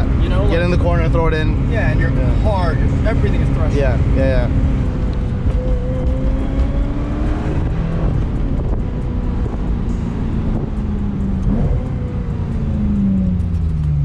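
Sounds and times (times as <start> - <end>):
wind rush: 0.0 - 13.0
car engine running while driving: 0.0 - 14.0.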